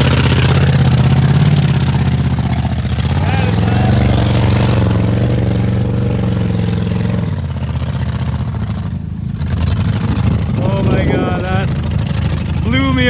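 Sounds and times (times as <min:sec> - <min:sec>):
engine revving hard: 0:00.0 - 0:13.0
wheels spinning through mud: 0:00.0 - 0:13.0.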